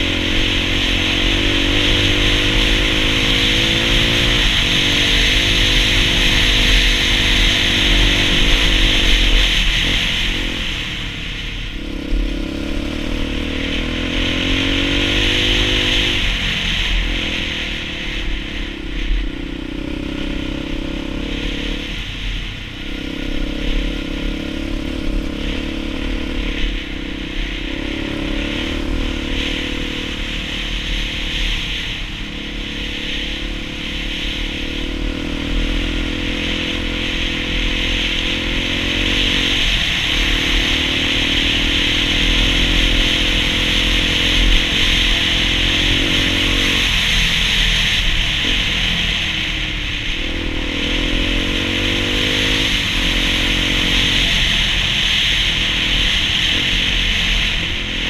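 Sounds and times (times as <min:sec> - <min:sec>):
dirt bike engine revving: 0:00.0 - 0:58.0
wind and road noise: 0:00.0 - 0:58.0.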